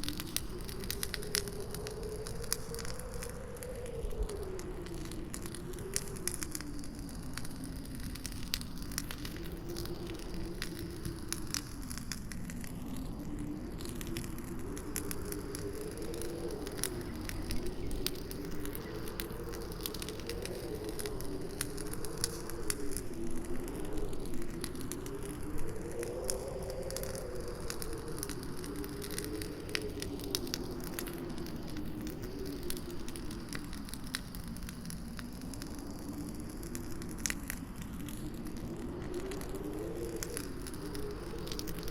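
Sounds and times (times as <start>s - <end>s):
campfire crackling and popping: 0.0s - 41.9s
howling wind: 0.0s - 41.9s.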